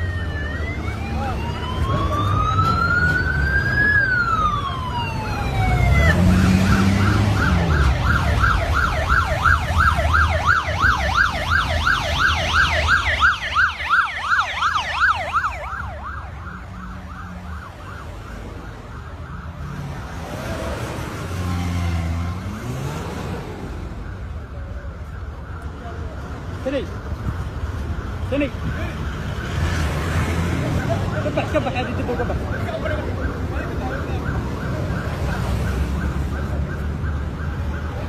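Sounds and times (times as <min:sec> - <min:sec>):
police siren yelping: 0:00.0 - 0:38.0
vehicles driving past: 0:00.0 - 0:38.0.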